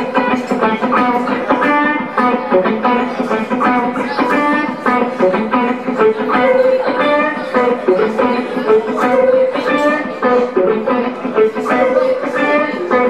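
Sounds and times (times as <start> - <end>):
electric guitar strumming chords: 0.0 - 13.0.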